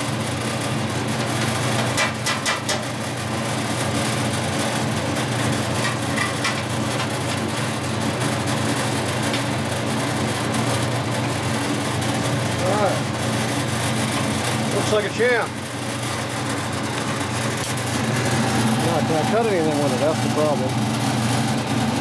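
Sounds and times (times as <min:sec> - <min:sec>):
bandsaw motor humming: 0:00.0 - 0:22.0.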